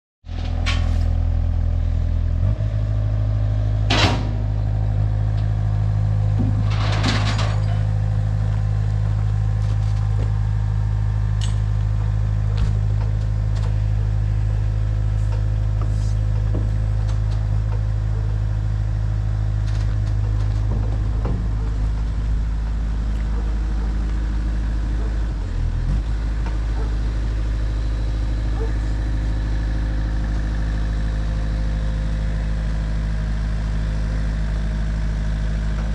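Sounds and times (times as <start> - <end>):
vehicle engine running: 0.3 - 35.9.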